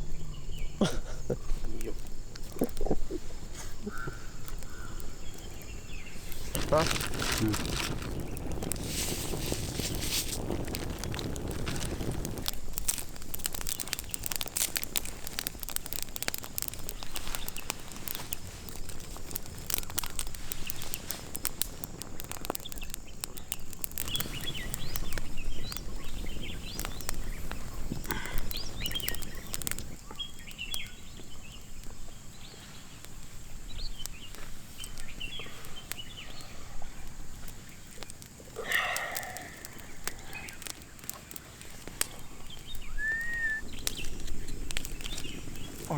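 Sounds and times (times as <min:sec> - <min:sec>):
birds chirping: 0:00.0 - 0:45.9
sharp crackles and clicks: 0:00.0 - 0:45.9.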